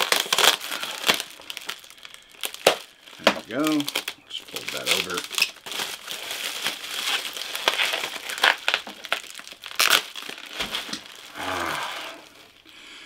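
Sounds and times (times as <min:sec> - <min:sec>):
packaging crinkling and rustling: 0:00.0 - 0:12.7.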